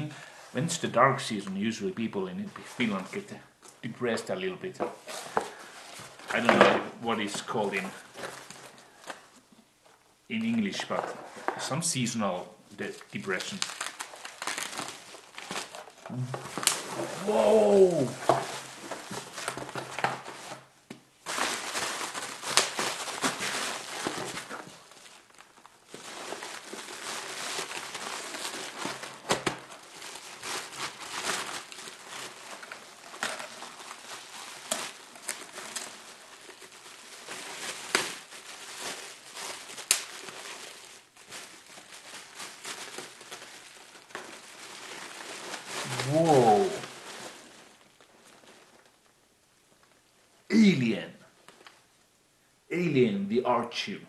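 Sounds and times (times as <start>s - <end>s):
bubble wrap crinkling: 1.4s - 11.8s, 12.7s - 52.0s.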